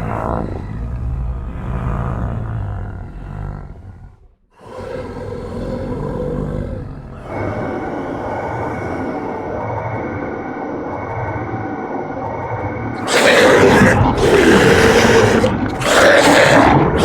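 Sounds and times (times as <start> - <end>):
monster roaring: 0.0 - 9.8, 13.0 - 17.0.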